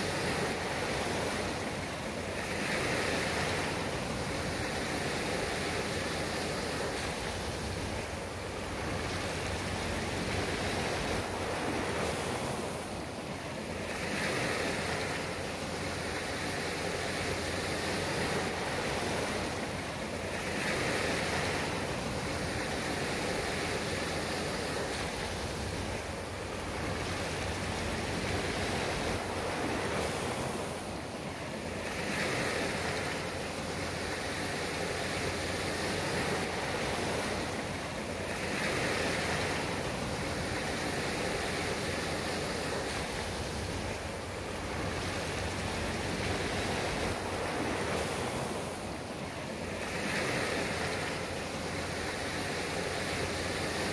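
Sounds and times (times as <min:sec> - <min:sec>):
waves washing onto sand: 0:00.0 - 0:53.9.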